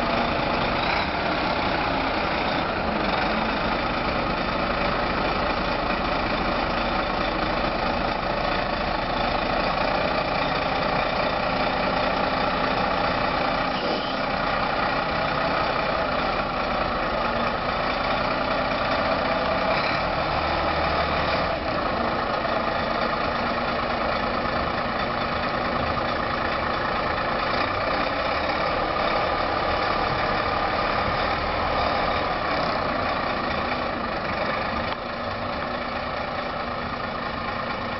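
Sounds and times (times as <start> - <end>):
truck diesel engine running: 0.0 - 37.9.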